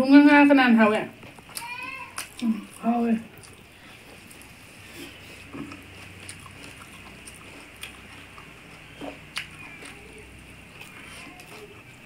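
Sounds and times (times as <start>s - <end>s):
person chewing: 1.2s - 12.0s.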